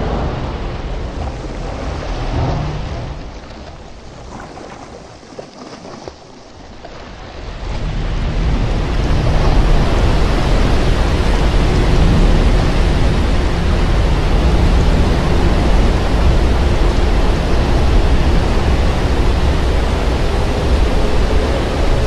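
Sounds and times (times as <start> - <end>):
ocean waves: 0.0 - 22.0
wind: 0.0 - 22.0.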